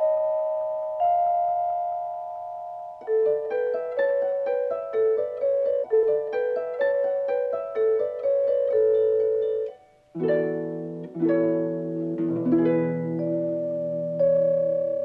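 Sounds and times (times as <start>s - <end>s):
melody of struck ringing notes: 0.0s - 15.0s.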